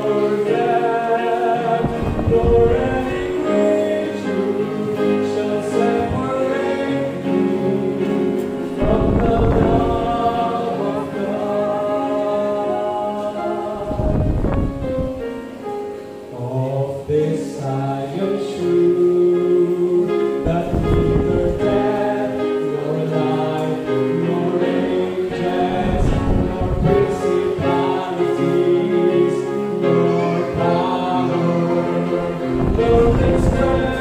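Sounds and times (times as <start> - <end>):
man singing gospel: 0.0 - 15.2, 16.3 - 34.0
upright piano: 0.0 - 34.0.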